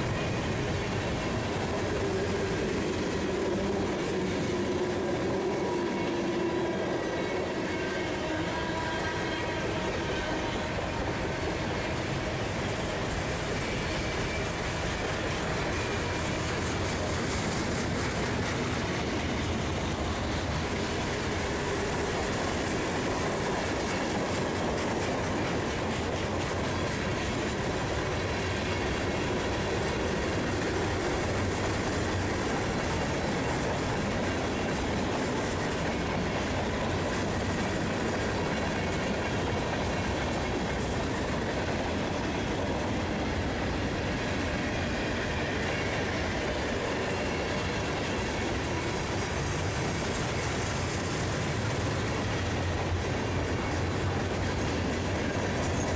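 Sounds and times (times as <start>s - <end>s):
train wheels clicking and rumbling: 0.0s - 55.9s.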